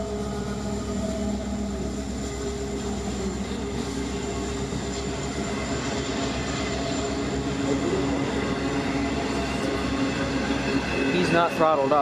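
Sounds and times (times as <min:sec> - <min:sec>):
diesel locomotive engine: 0:00.0 - 0:12.0
train wheels rumbling on rails: 0:00.0 - 0:12.0.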